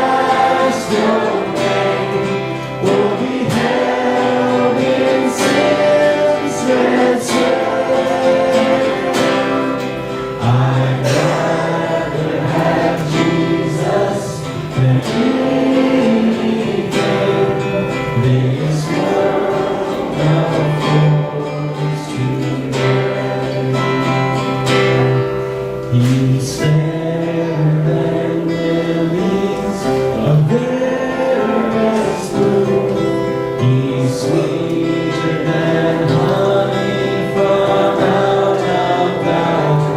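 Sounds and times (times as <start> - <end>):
band with guitar and bass: 0.0 - 39.9
group of voices singing: 0.0 - 39.9.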